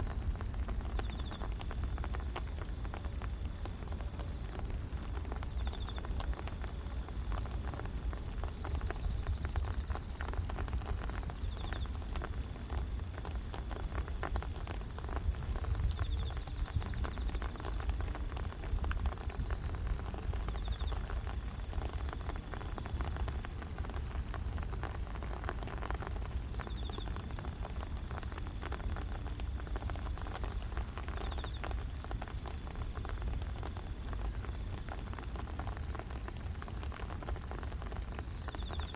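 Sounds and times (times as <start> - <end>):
cricket pulsed chirp: 0.0 - 38.9.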